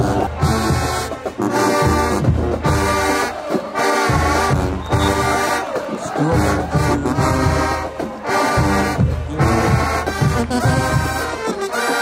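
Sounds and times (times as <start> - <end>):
marching band brass playing: 0.0 - 12.0.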